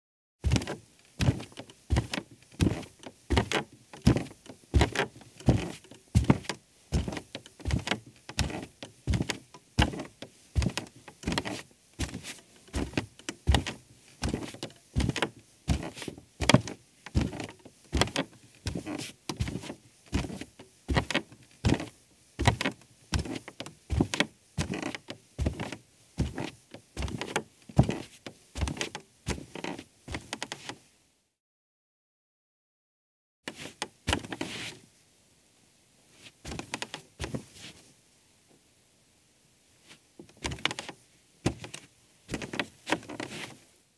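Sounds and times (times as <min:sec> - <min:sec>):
barefoot footsteps on creaky rug: 0:00.4 - 0:30.8, 0:33.5 - 0:34.8, 0:36.2 - 0:37.8, 0:39.9 - 0:43.6.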